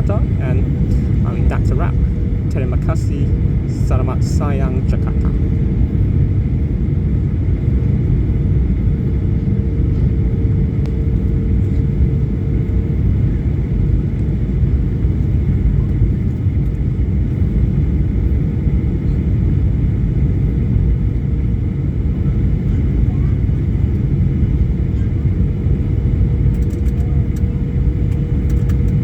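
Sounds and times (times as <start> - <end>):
vehicle rumble inside cabin: 5.0 - 29.0.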